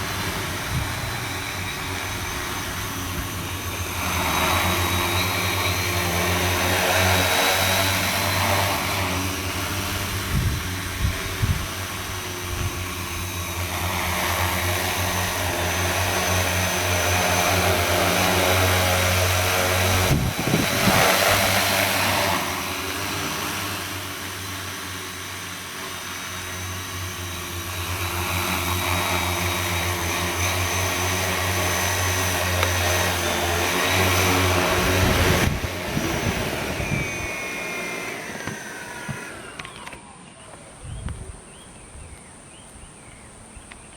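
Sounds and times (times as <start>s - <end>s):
drone motors and propellers humming: 0.0s - 43.9s.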